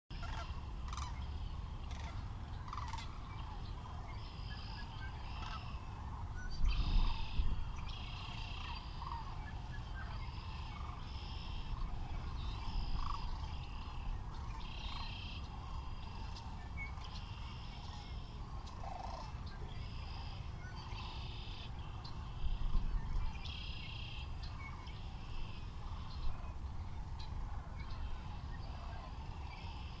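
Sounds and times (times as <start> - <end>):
distant animal calls: 0.1 - 30.0.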